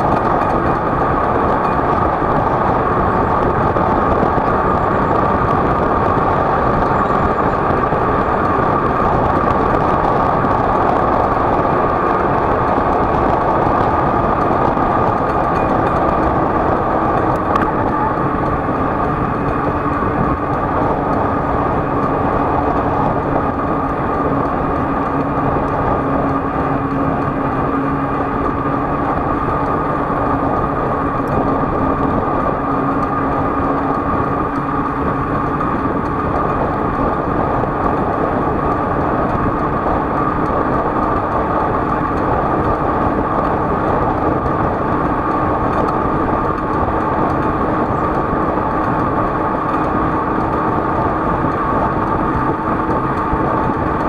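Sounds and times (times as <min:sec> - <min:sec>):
road and wind noise: 0:00.0 - 0:54.0
vehicle engine hum: 0:00.0 - 0:54.0.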